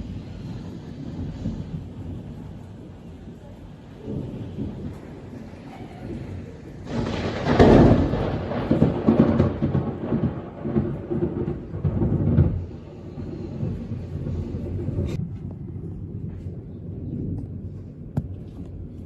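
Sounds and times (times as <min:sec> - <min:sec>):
rolling thunder rumbles: 0:00.0 - 0:19.0
thunder crack: 0:00.0 - 0:19.0.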